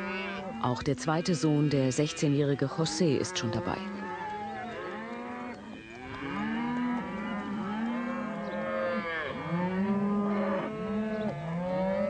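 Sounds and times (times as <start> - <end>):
cattle mooing: 0.0 - 12.0.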